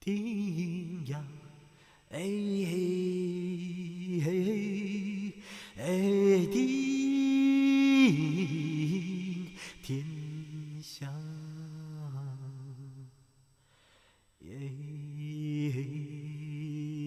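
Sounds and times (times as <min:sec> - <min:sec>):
solo voice singing: 0:00.0 - 0:13.2, 0:14.4 - 0:17.0.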